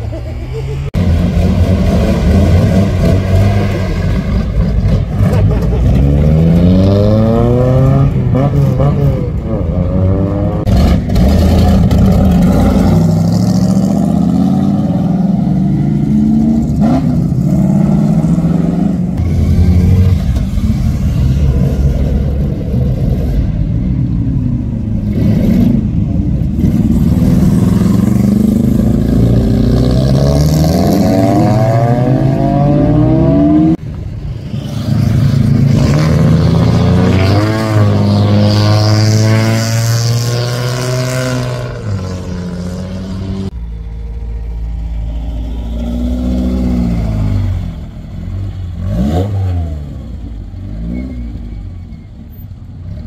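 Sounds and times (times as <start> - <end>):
cars revving past: 0.9 - 43.6.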